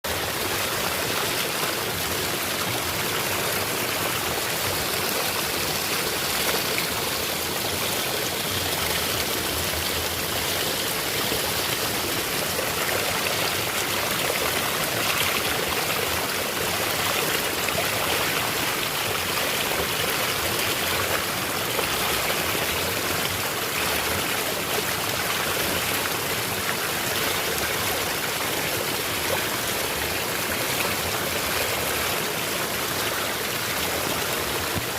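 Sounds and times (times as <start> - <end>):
small waterfall splashing: 0.0 - 34.9.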